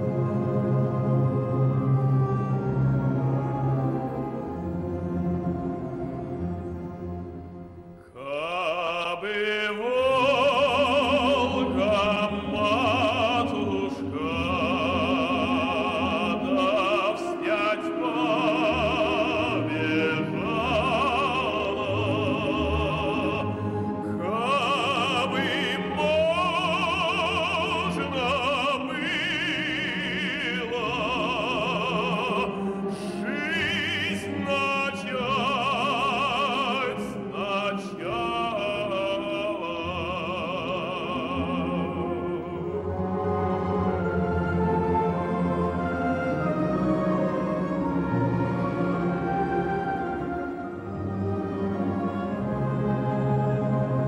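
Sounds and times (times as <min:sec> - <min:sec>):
operatic tenor singing: 0:00.0 - 0:54.0.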